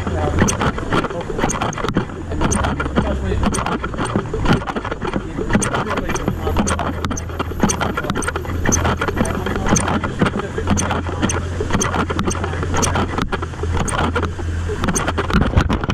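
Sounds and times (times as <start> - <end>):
city street hum: 0.0 - 15.9.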